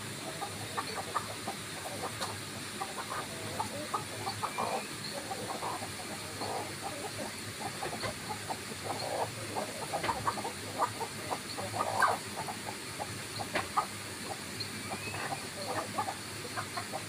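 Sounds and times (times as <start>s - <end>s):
chickens clucking: 0.0s - 17.0s
steady background hiss: 0.0s - 17.0s.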